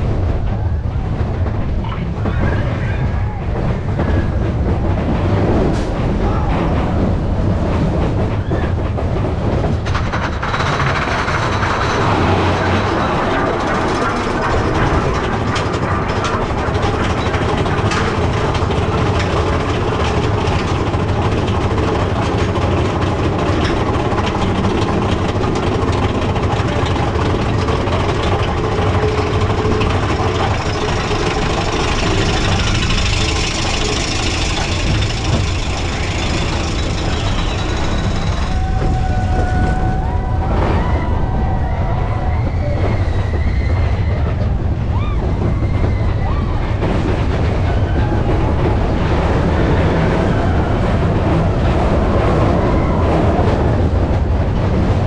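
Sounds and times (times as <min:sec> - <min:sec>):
roller coaster rumbling on track: 0:00.0 - 0:55.0.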